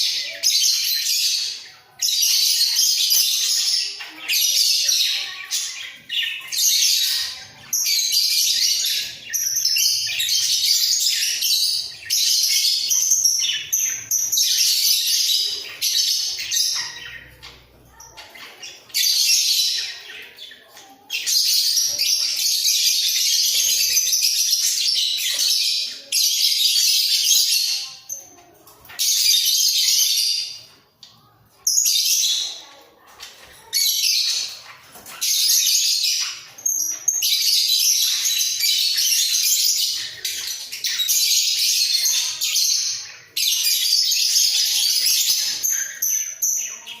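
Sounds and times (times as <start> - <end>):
budgerigars chattering and warbling: 0.0 - 47.0.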